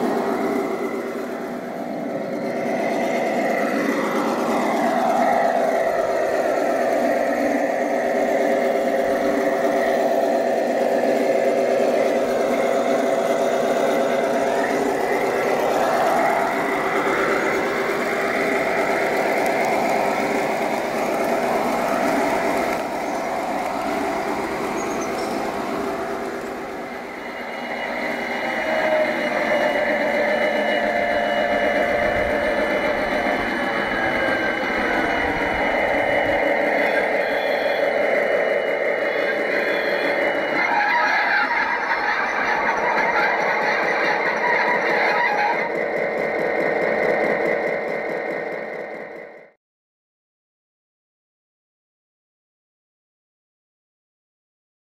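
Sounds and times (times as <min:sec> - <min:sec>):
model diesel engine sound: 0:00.0 - 0:49.6.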